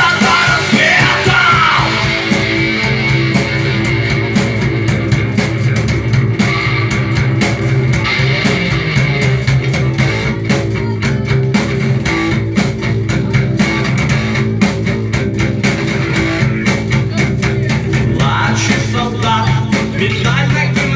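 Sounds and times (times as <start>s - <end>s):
rock band instrumental: 0.0s - 20.9s.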